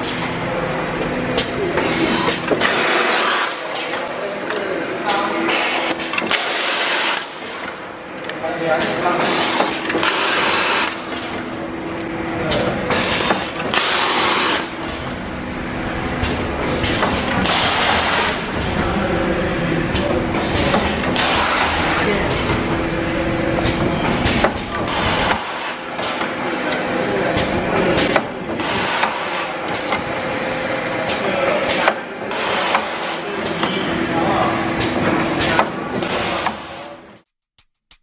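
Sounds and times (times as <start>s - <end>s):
filling machine hum: 0.0s - 37.1s.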